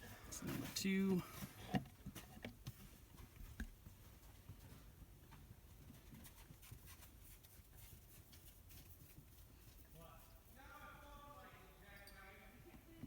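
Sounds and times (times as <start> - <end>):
faint ticks and handling noises: 0.0 - 13.0.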